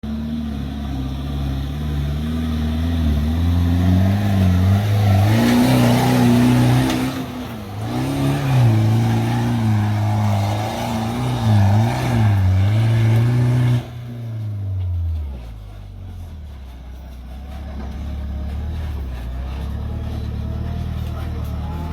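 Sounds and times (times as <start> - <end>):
engine revving under load: 0.0 - 21.9.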